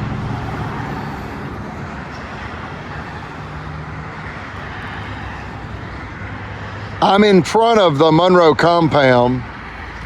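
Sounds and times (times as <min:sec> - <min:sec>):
engine drone: 0:00.0 - 0:10.0
traffic rushing: 0:00.0 - 0:10.0
vehicle passing: 0:00.0 - 0:10.0.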